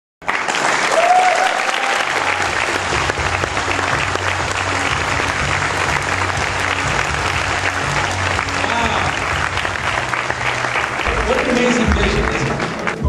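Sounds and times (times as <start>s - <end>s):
audience applauding: 0.2s - 13.0s
crowd cheering: 0.2s - 13.0s.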